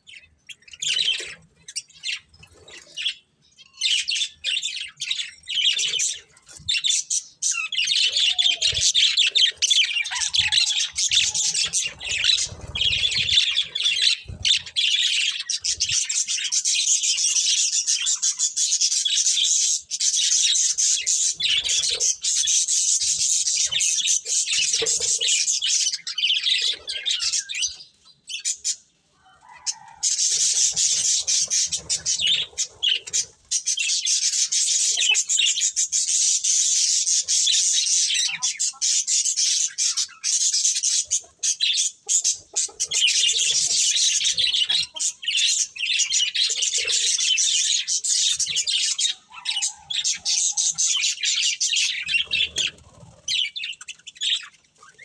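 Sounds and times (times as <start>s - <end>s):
budgerigars chattering: 0.1s - 28.8s, 29.5s - 55.0s.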